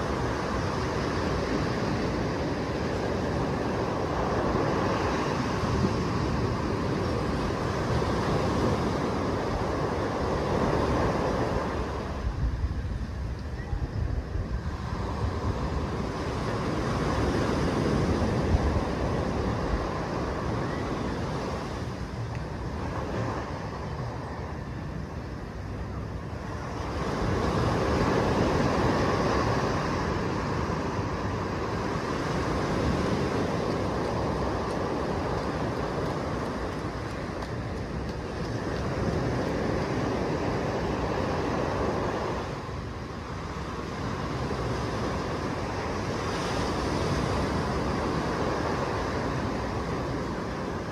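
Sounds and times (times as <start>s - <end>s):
small waves breaking on beach: 0.0s - 50.9s.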